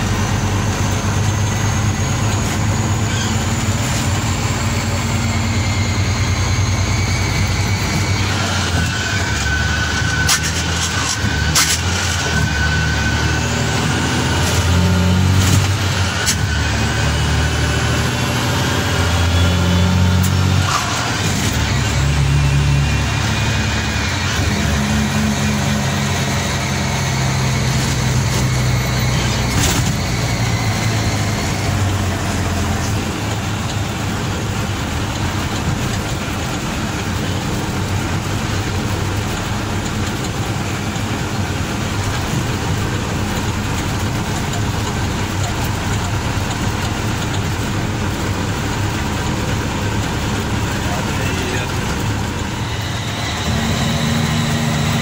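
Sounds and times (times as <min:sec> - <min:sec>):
road noise: 0:00.0 - 0:55.0
truck diesel engine: 0:00.0 - 0:55.0.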